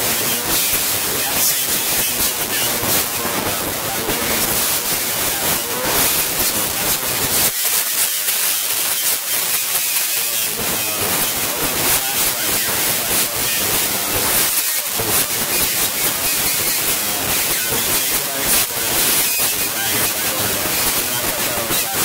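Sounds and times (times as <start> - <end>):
crackly static hiss: 0.0 - 22.0.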